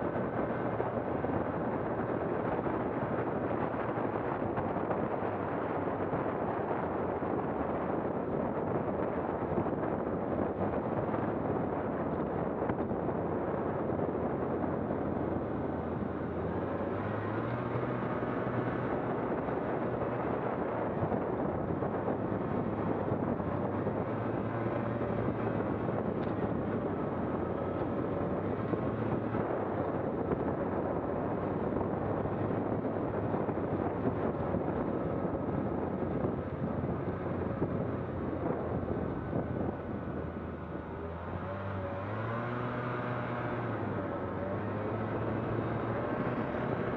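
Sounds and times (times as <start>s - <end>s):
vehicle engine: 0.0s - 46.9s
wind noise on microphone: 0.0s - 46.9s.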